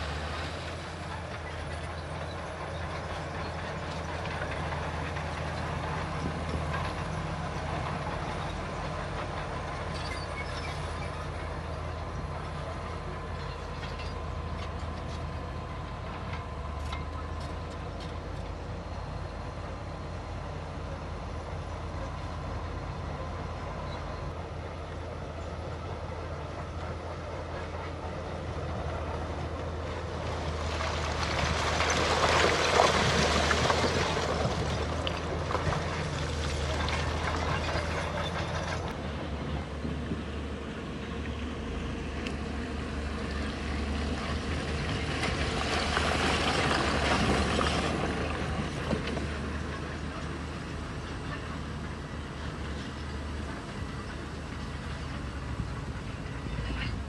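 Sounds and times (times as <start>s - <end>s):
diesel machinery engine hum: 0.0s - 57.0s.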